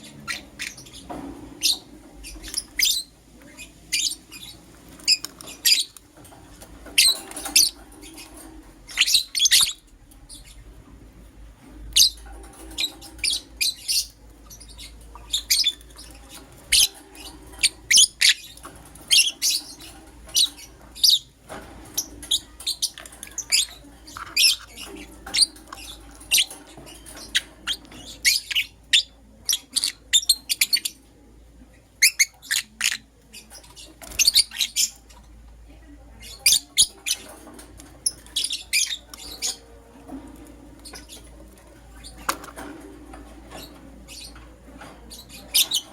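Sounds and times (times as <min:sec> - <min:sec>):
lovebirds chirping: 0:00.0 - 0:45.9.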